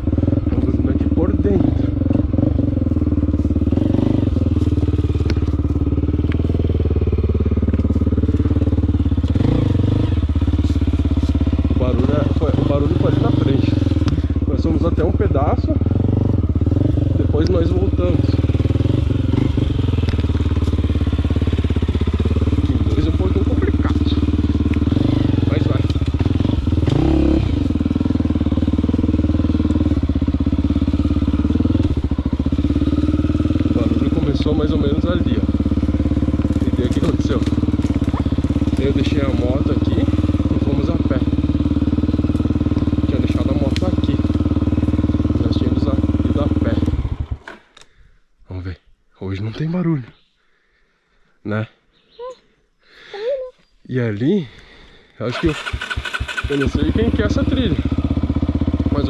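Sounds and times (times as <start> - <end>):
motorcycle engine running: 0.0 - 47.8, 54.7 - 59.0.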